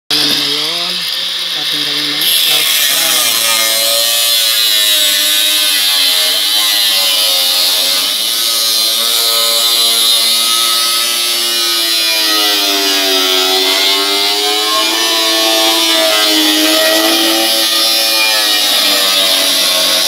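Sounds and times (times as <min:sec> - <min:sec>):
angle grinder cutting metal: 0:00.1 - 0:20.0.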